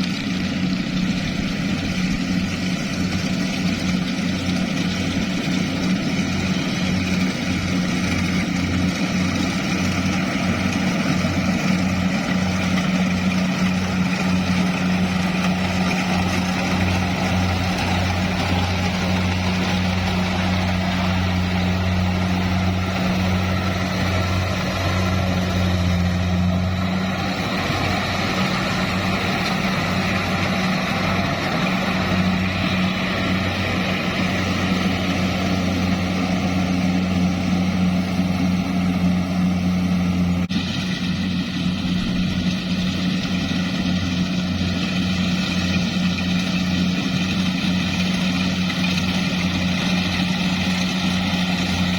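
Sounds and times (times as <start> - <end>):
farm machine engine running: 0.0 - 51.9.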